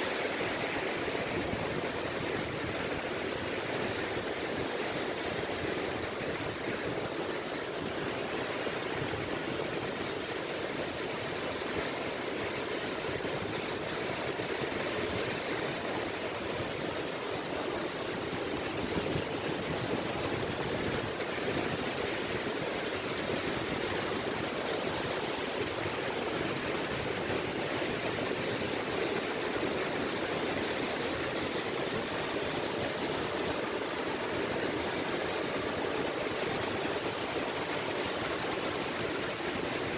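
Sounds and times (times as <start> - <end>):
small waves lapping on beach: 0.0 - 39.9.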